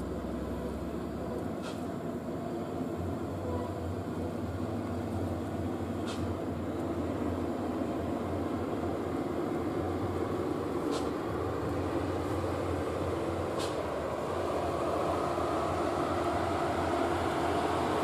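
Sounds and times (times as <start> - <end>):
diesel truck engine climbing uphill: 0.0 - 18.0.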